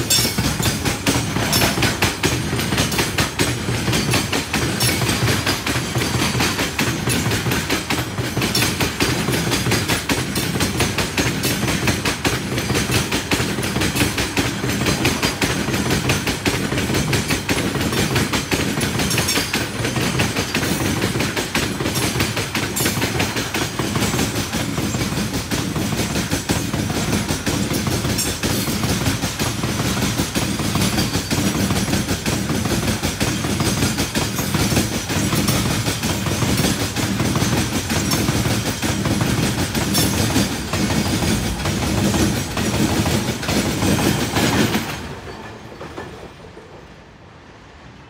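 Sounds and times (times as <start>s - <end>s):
wheels clacking over rail joints: 0.0s - 47.2s
freight train wheels rumbling on rails: 0.0s - 48.0s.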